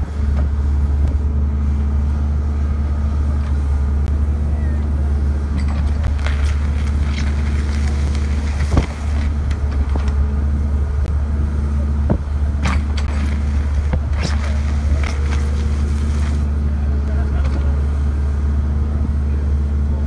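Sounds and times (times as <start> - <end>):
low engine-like rumble: 0.0 - 20.0.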